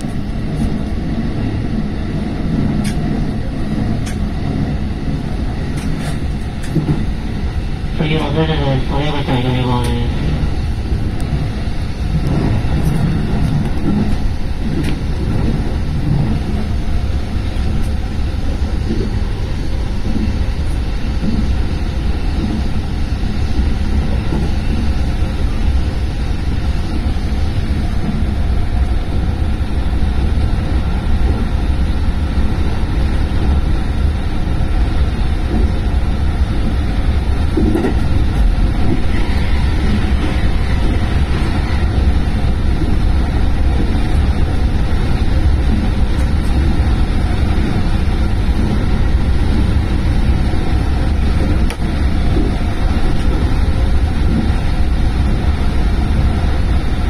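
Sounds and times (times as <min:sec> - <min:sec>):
electric train low rumble: 0:00.0 - 0:57.0.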